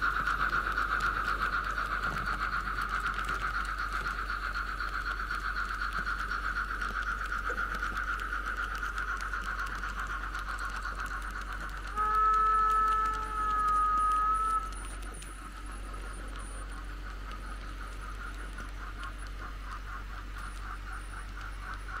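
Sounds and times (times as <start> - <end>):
model steam locomotive running: 0.0 - 22.0.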